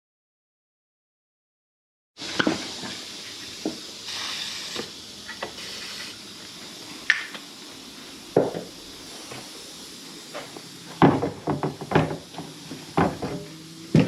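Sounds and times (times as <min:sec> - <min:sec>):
steady hiss: 0:02.2 - 0:14.0.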